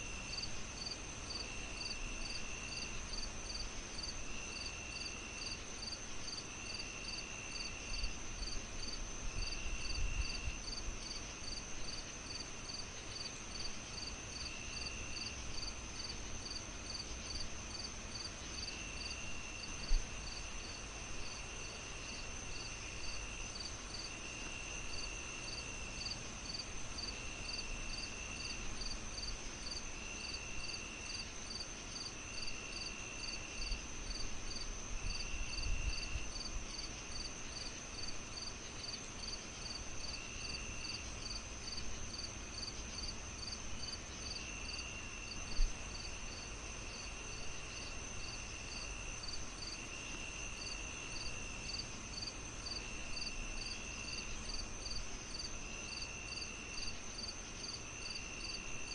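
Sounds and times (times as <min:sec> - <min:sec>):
crickets chirping: 0:00.0 - 0:58.9
high insect trill: 0:00.1 - 0:58.9.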